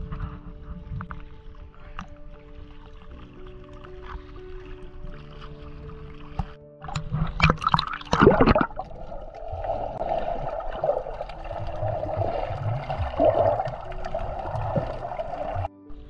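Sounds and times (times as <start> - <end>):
water splashing over camera: 0.0 - 15.7
muffled underwater rushing: 0.0 - 16.0.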